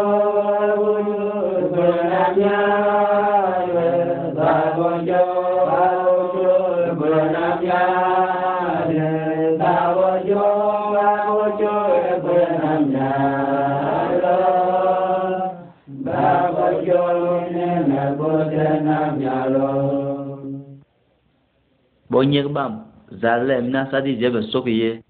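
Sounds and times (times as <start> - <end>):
voices singing a hymn: 0.0 - 20.8.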